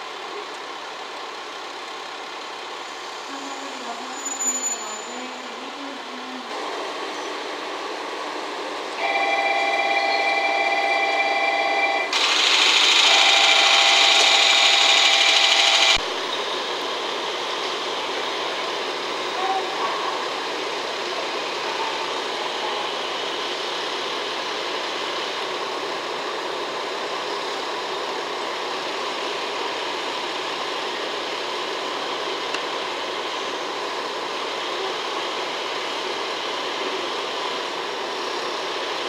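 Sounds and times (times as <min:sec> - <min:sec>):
diesel locomotives idling: 0:00.0 - 0:39.0.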